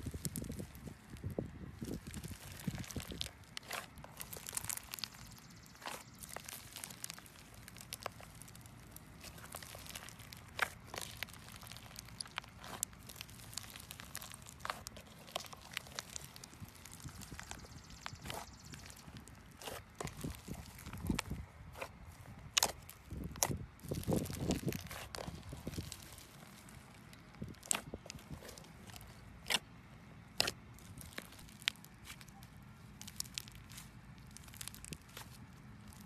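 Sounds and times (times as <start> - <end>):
slime crackling and popping: 0.0 - 29.7, 30.3 - 36.0.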